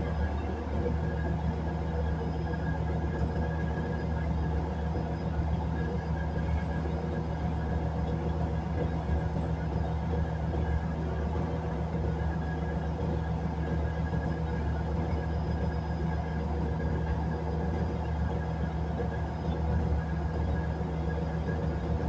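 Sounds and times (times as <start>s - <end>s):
railbus engine drone and rumble: 0.0s - 22.0s.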